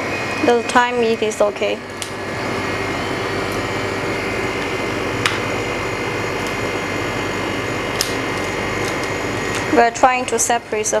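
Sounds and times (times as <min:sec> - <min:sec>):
freezer machine humming: 0:00.0 - 0:11.0.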